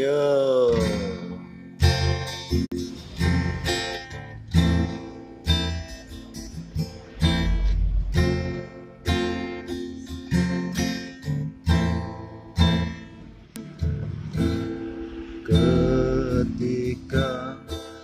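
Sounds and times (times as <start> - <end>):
acoustic guitar chords strummed: 0.0 - 18.0.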